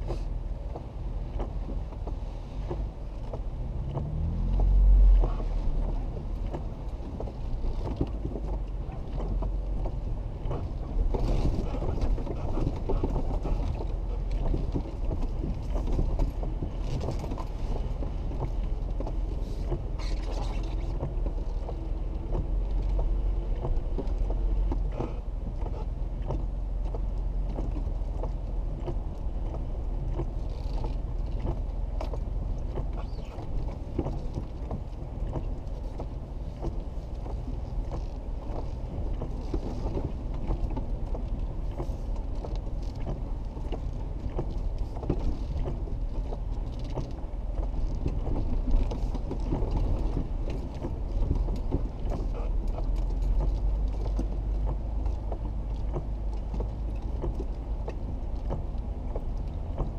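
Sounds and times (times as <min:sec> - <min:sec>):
engine and road rumble: 0:00.0 - 0:59.9
vehicle body creaks and rattles: 0:00.0 - 0:59.9.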